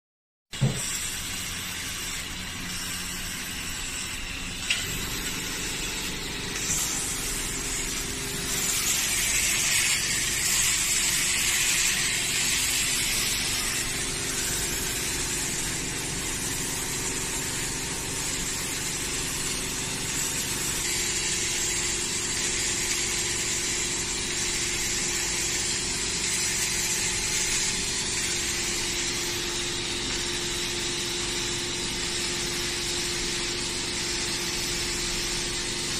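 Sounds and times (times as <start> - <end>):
machine hum: 0.6 - 35.9
welding hiss: 0.6 - 35.9.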